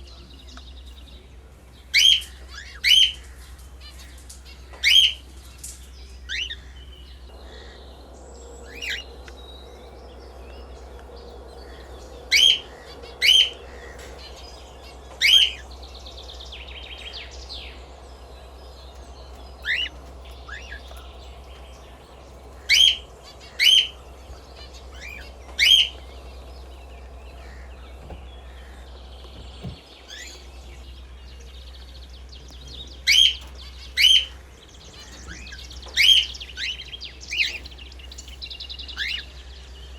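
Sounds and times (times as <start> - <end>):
bird chatter: 0.0 - 39.9
birds chirping: 0.0 - 39.9
steady low hum: 0.0 - 39.9.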